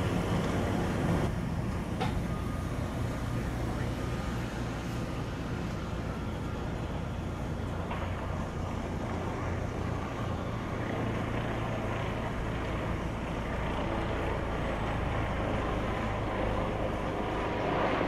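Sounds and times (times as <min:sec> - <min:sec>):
boat engine rumble: 0:00.0 - 0:18.0
outdoor noise haze: 0:00.0 - 0:18.0.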